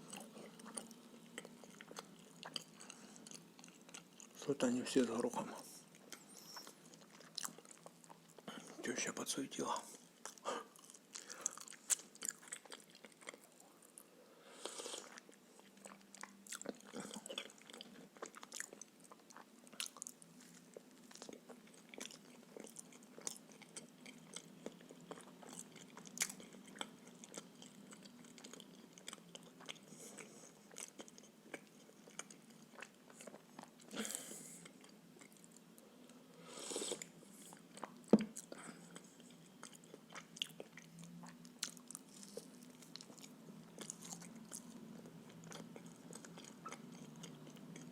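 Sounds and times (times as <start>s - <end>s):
chewing with wet mouth clicks: 0.1s - 4.4s, 5.9s - 8.5s, 10.2s - 14.0s, 15.0s - 33.9s, 37.0s - 47.9s.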